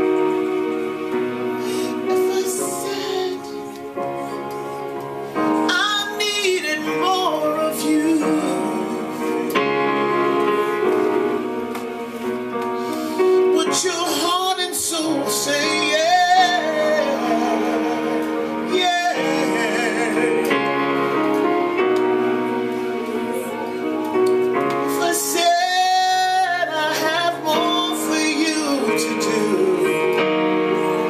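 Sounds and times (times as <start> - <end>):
electronic keyboard chords: 0.0 - 31.0.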